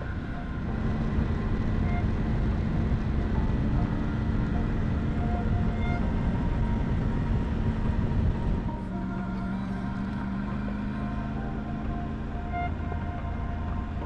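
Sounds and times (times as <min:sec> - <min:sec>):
motorcycle engine running: 0:00.0 - 0:14.0
road rumble: 0:00.0 - 0:14.0
wind: 0:00.0 - 0:14.0.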